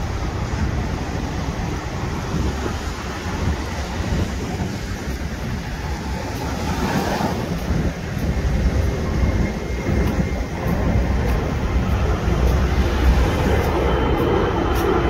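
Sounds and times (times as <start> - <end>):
traffic and road noise rumble: 0.0 - 15.0
vehicles passing close by: 0.0 - 15.0.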